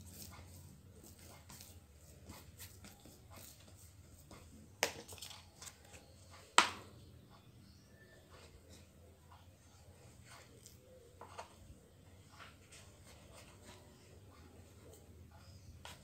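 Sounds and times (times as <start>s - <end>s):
hands shaping dough: 0.0s - 16.0s.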